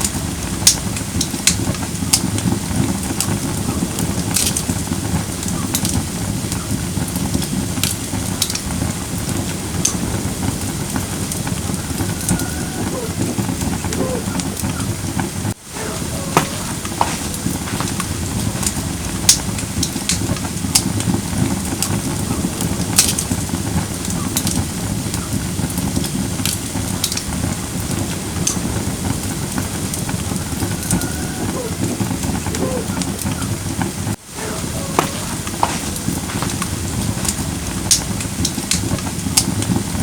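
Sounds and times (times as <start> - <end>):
firewood burning with crackles: 0.0 - 40.0.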